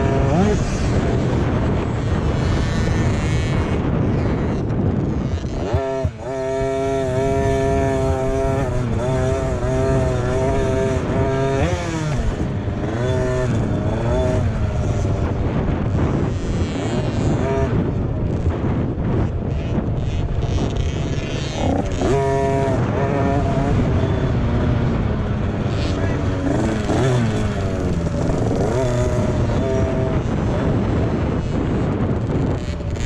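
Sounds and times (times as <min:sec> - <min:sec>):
dirt bike engines revving: 0:00.0 - 0:33.0.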